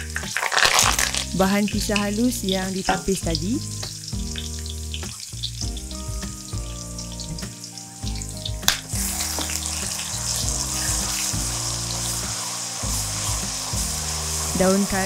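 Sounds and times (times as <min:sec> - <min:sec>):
background music with held notes: 0:00.0 - 0:15.0
paste sizzling in hot oil: 0:00.0 - 0:15.0.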